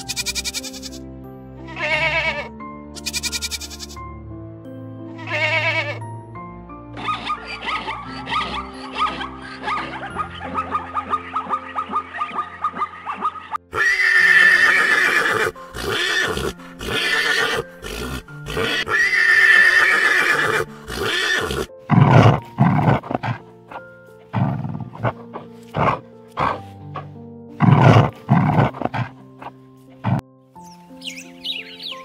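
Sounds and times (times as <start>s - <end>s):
background music: 0.0s - 32.0s
horse whinnying: 1.7s - 4.0s, 5.2s - 6.0s, 7.0s - 30.2s.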